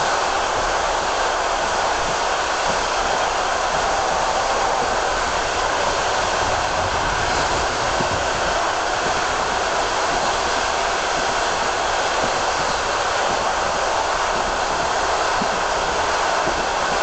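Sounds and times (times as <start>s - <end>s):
train rushing at speed: 0.0s - 17.0s.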